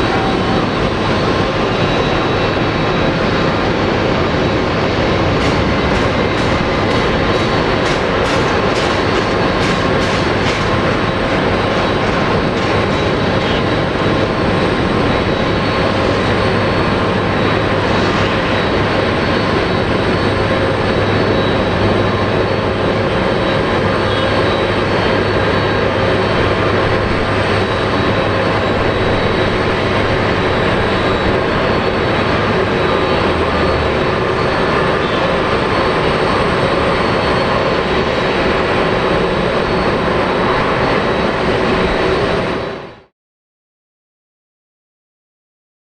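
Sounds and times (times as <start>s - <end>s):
jet engines running: 0.0s - 43.1s.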